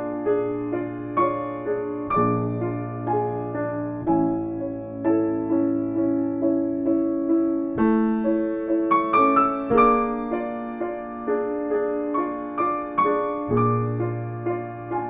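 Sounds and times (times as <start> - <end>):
slow gentle solo piano: 0.0 - 15.0.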